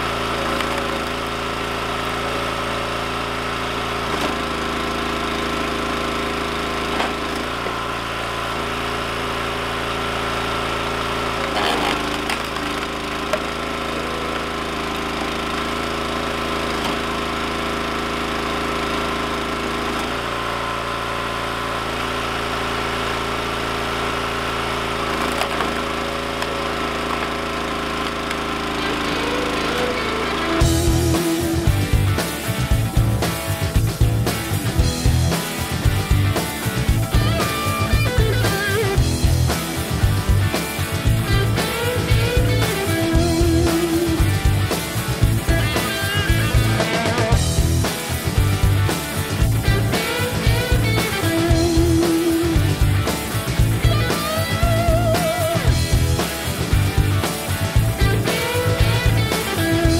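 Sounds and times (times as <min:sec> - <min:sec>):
log splitter engine running: 0:00.0 - 0:59.9.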